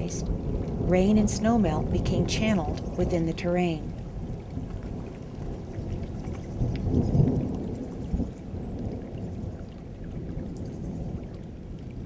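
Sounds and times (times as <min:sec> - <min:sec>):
rain falling: 0:00.0 - 0:12.0
thunder rumbling: 0:00.0 - 0:12.0.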